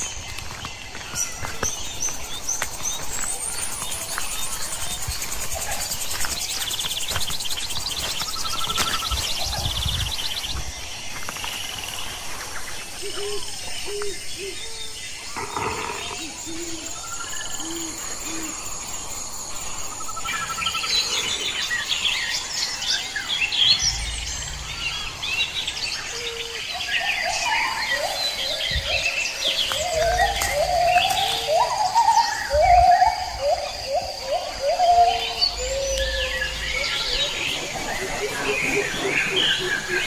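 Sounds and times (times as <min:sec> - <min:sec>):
birds chirping and trilling: 0:00.0 - 0:40.0.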